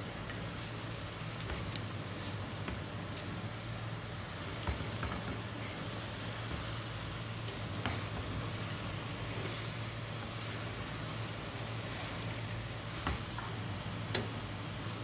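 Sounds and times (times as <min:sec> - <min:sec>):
noodles frying with steady hiss: 0:00.0 - 0:15.0.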